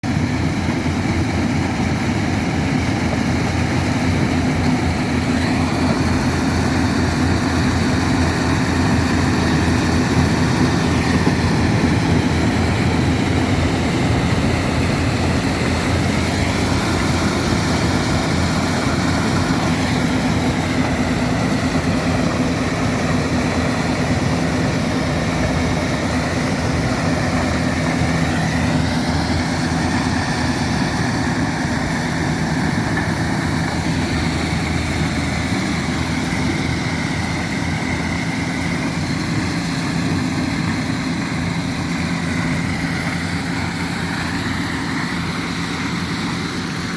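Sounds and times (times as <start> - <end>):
combine harvester engine drone: 0.0 - 46.9.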